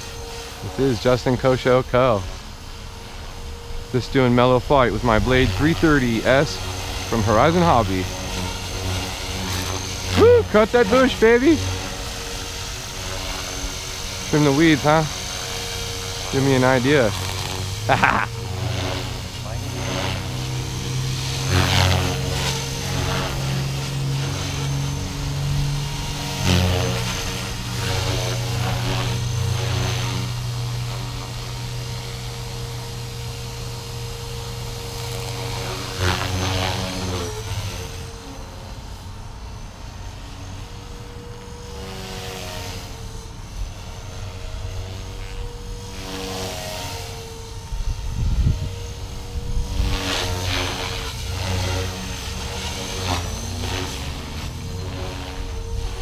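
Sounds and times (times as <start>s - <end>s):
rc helicopter motor and rotor whine: 0.0s - 56.0s.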